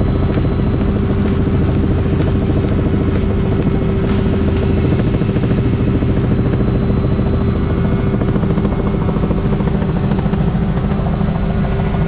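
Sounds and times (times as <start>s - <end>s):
helicopter rotor beat: 0.0s - 12.0s
high turbine whine: 0.0s - 12.0s.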